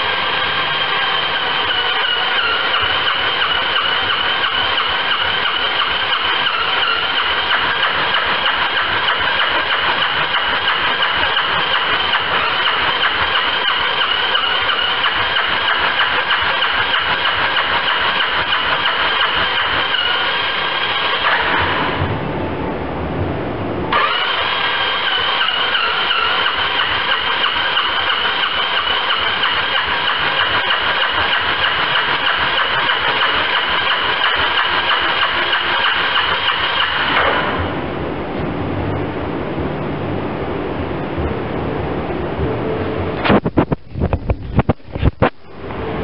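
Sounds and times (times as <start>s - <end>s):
diesel engine turning over: 0.0s - 43.7s
high-pitched engine whine: 0.0s - 46.0s.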